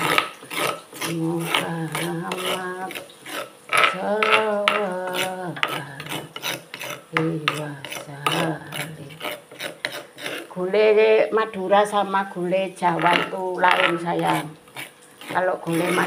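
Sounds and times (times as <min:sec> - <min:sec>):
stone pestle grinding paste: 0:00.0 - 0:10.7, 0:12.8 - 0:16.0.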